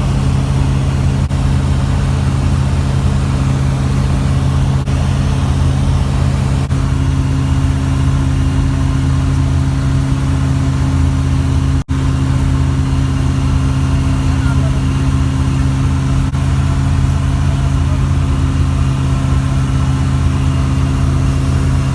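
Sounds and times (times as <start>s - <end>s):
light aircraft engine drone: 0.0s - 21.9s.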